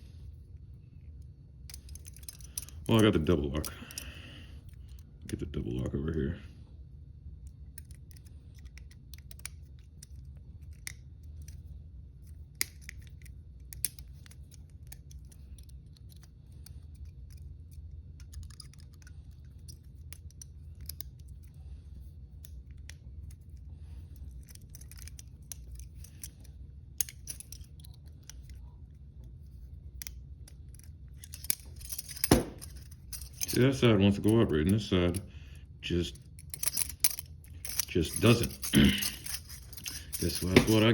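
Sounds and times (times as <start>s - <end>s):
metallic clicks of lock picking: 1.6s - 5.4s, 7.4s - 29.0s, 29.6s - 35.3s, 36.1s - 40.9s.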